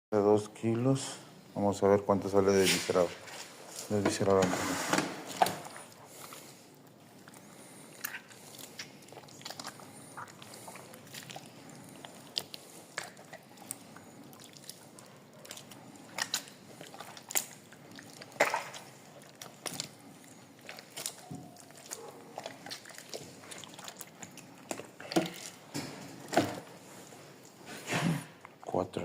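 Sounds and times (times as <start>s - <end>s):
wet squelching: 5.1s - 28.5s.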